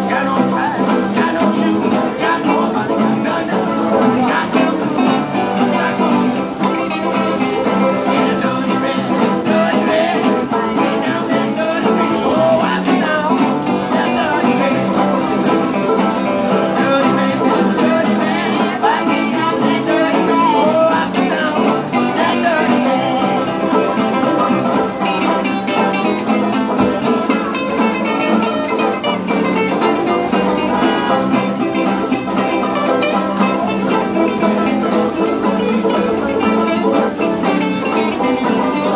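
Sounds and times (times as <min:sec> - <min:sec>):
acoustic string band playing: 0:00.0 - 0:38.9.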